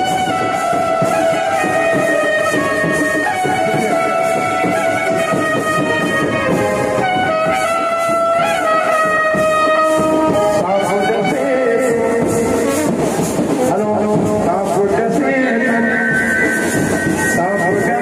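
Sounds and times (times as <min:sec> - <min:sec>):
slow brass melody: 0:00.0 - 0:18.0.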